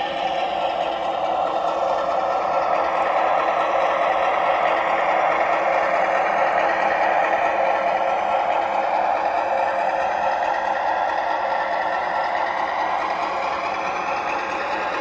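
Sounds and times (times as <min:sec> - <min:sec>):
model train hum and rumble: 0:00.0 - 0:15.0.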